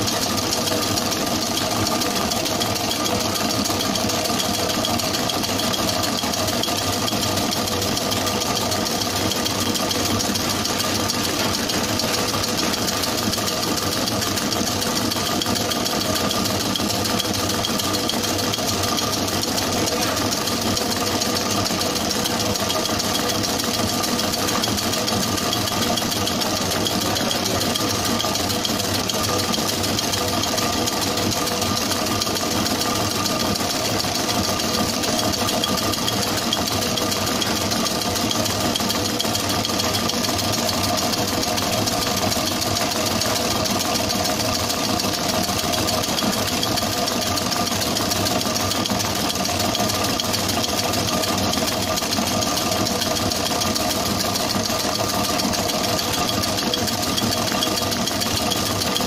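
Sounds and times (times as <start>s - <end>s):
mixer churning batter: 0.0s - 59.0s.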